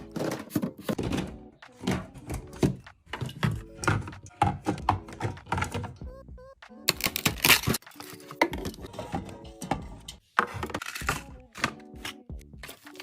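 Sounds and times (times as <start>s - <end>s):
items knocking and clinking: 0.0s - 6.1s, 6.9s - 13.0s.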